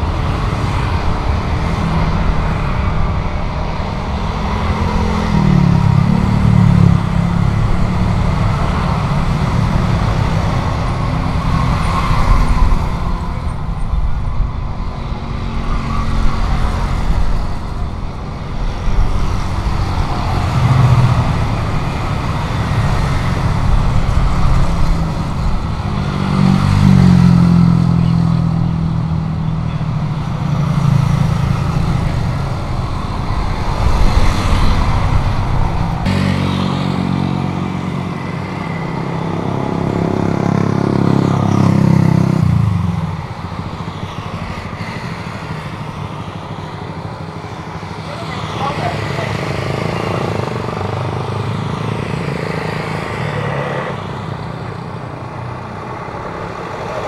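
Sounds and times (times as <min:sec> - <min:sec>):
loud engine noise: 0:00.0 - 0:57.0.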